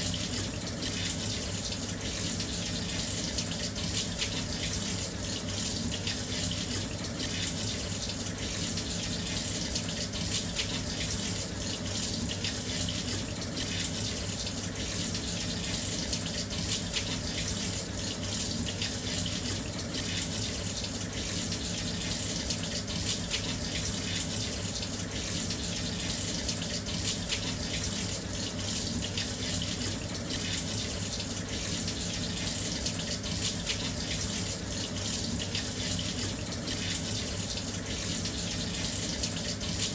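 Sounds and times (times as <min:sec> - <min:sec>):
water pouring into washing machine: 0:00.0 - 0:39.9.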